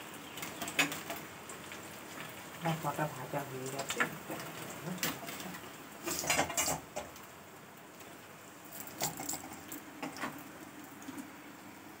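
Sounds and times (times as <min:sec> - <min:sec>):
oil sizzling while deep-frying: 0:00.0 - 0:12.0.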